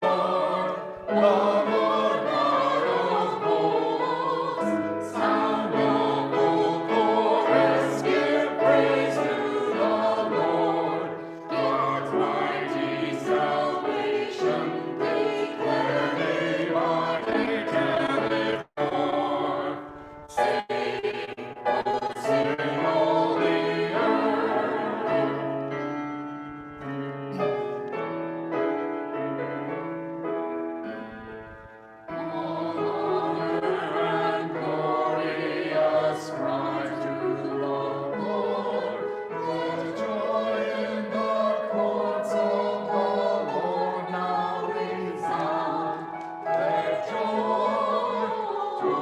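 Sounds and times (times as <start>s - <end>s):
church choir singing: 0.0s - 49.0s.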